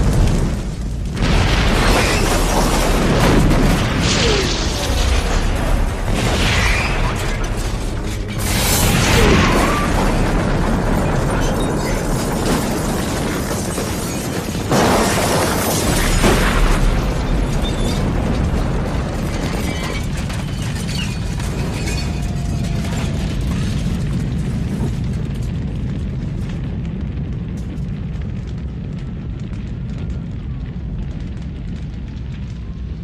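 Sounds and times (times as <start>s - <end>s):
explosion blasts: 0.0s - 33.0s
roar of explosion and fire: 0.0s - 33.0s.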